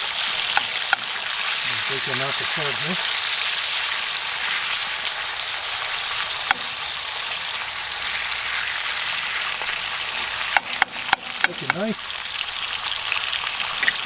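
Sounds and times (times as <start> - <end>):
bacon sizzling in a pan: 0.0 - 14.0.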